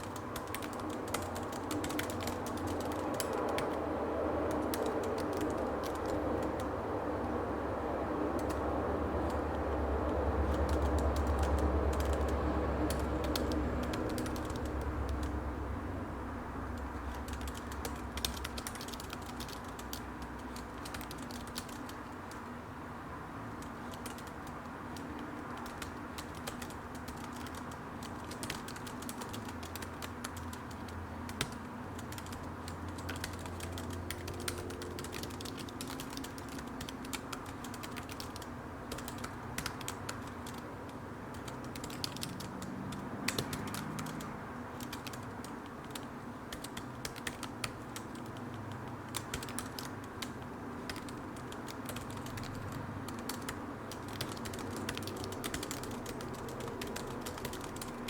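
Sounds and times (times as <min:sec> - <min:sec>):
keyboard keystroke clicks: 0:00.0 - 0:03.8, 0:04.5 - 0:06.7, 0:10.4 - 0:15.3, 0:16.7 - 0:22.4, 0:23.6 - 0:40.6, 0:41.3 - 0:58.0
steady background hum: 0:00.0 - 0:58.0.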